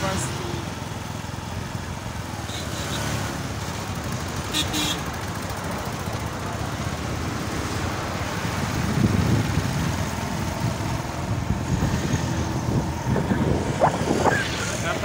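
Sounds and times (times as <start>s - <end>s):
motorcycle engine rumble: 0.0s - 15.0s
road and wind noise: 0.0s - 15.0s.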